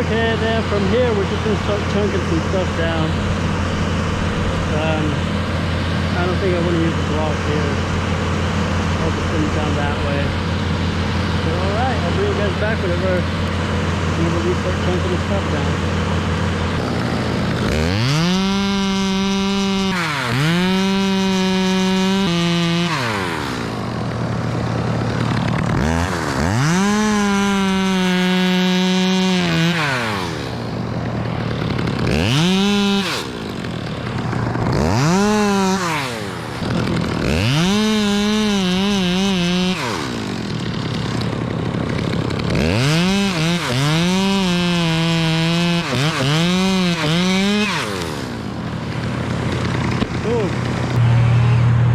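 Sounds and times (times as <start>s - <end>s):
chainsaw idling: 0.0s - 51.9s
chainsaw revving and cutting wood: 0.0s - 51.9s.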